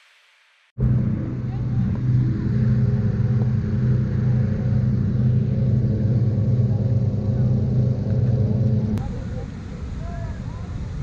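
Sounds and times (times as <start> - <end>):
engine humming steadily: 0.8 - 10.7.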